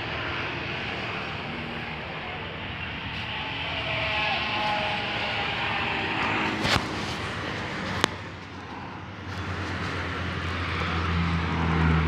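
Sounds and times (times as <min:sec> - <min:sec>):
road traffic: 0:00.0 - 0:12.0
vehicle engine drone: 0:00.0 - 0:12.0.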